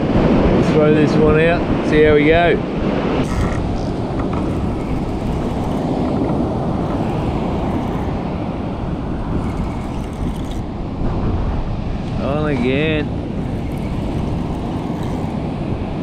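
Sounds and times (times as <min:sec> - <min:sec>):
surf rumbling: 0:00.0 - 0:16.0
wind buffeting microphone: 0:00.0 - 0:16.0.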